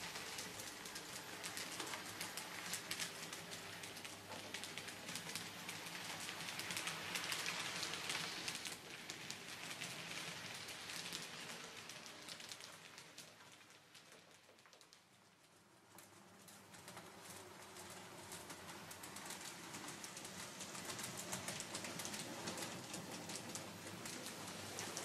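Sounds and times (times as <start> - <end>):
model train wheels clicking on rails: 0.0 - 25.0.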